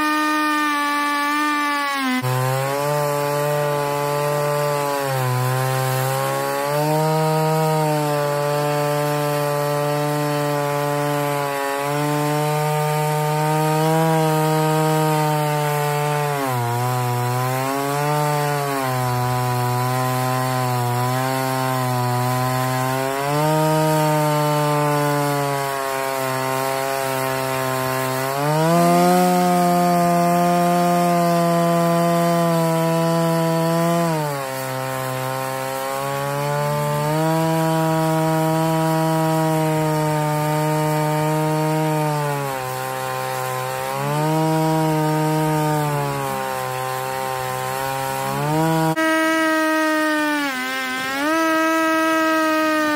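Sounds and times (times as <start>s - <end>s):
chainsaw cutting log at full throttle: 0.0s - 52.9s.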